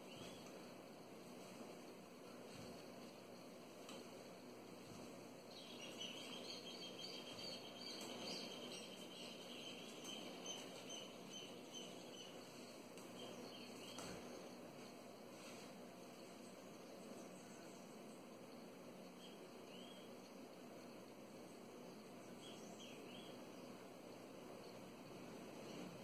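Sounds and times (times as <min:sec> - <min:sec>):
small birds chirping: 0:00.0 - 0:00.8, 0:03.9 - 0:14.7, 0:15.4 - 0:26.0
room hiss: 0:00.0 - 0:26.0.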